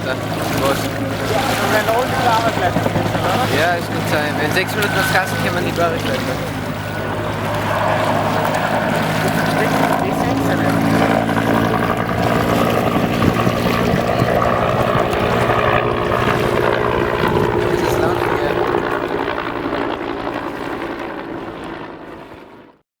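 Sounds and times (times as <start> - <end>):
helicopter in flight: 0.0 - 22.8.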